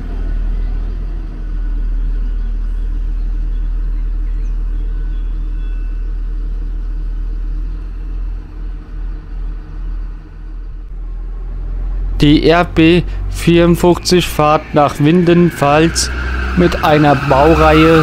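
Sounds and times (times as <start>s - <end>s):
diesel train engine rumbling: 0.0s - 18.0s.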